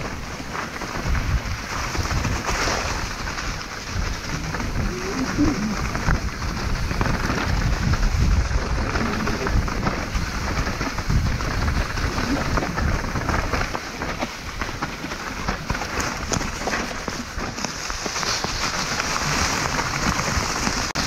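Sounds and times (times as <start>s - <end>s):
tyres crunching over gravel: 0.0s - 21.0s
wind rumble on microphone: 0.0s - 21.0s.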